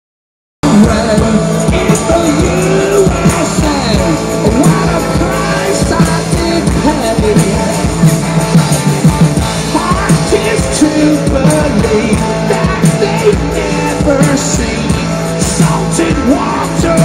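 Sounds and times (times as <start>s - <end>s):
drums: 0.6s - 17.0s
electric guitars: 0.6s - 17.0s
man singing lead vocal: 0.6s - 17.0s.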